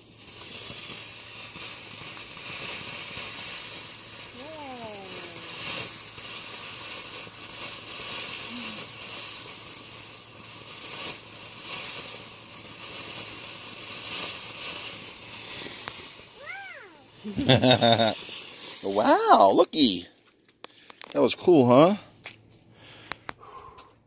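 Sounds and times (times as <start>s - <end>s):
firework sparks crackling hiss: 0.0s - 24.0s.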